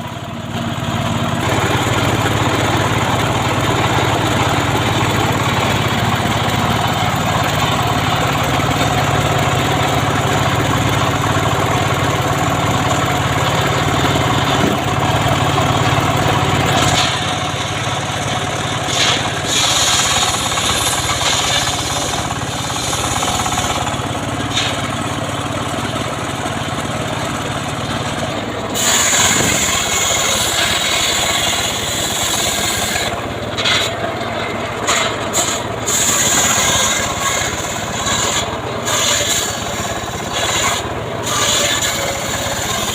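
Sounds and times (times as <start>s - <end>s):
engine drone: 0.0s - 42.9s
saw blade rasping through wood: 1.4s - 26.0s, 27.9s - 42.9s.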